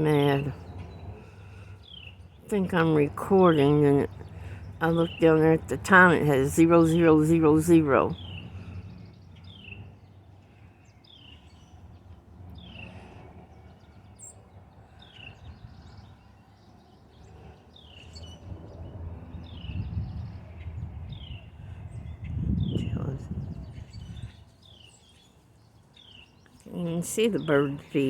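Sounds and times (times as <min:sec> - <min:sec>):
low outdoor rumble: 0:00.0 - 0:24.5
bird chirping: 0:00.0 - 0:28.0.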